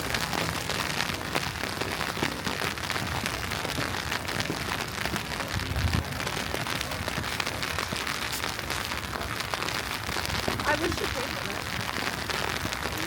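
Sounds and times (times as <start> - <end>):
wet snow falling: 0.0 - 13.0.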